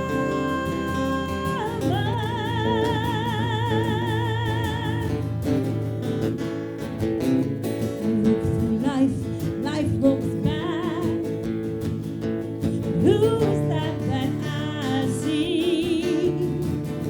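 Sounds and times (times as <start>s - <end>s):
acoustic guitar accompaniment: 0.0s - 17.0s.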